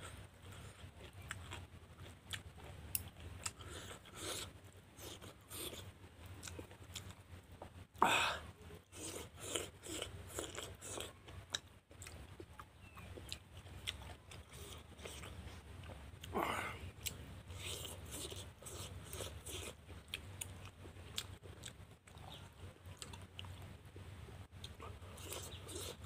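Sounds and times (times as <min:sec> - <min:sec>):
man chewing food: 0:00.0 - 0:26.0.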